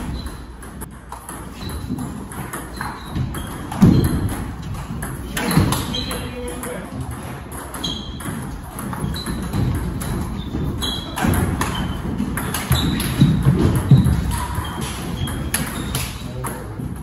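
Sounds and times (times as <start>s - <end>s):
ping pong ball hitting paddles: 0.0s - 17.0s
ball bouncing on table: 0.1s - 17.0s.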